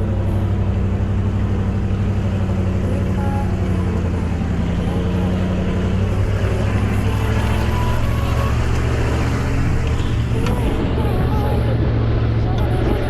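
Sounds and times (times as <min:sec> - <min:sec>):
car engine and road noise: 0:00.0 - 0:13.0
faint voices: 0:00.0 - 0:13.0.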